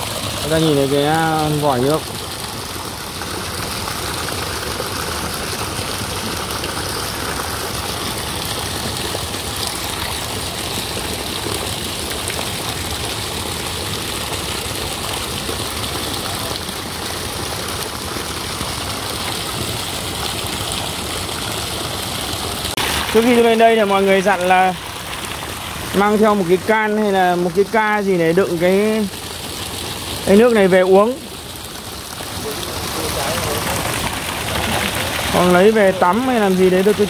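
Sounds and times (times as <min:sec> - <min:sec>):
water gushing from a pipe: 0:00.0 - 0:37.0.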